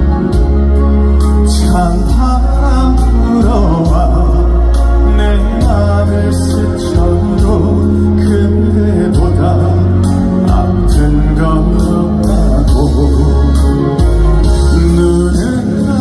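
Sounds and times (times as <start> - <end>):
live band music: 0.0 - 16.0
man singing: 0.0 - 16.0.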